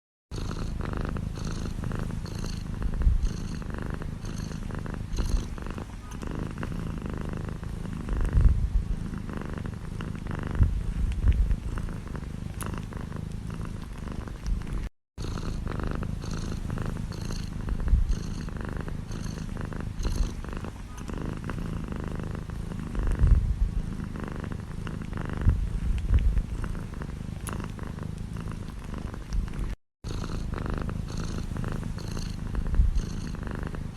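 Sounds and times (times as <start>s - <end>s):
cat purring: 0.3s - 33.9s.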